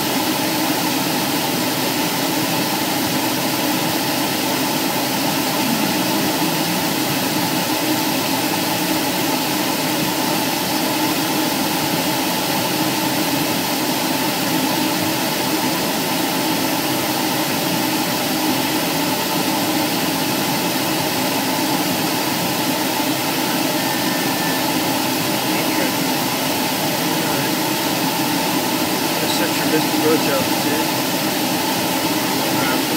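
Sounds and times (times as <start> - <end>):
aircraft engine droning in cabin: 0.0 - 32.9.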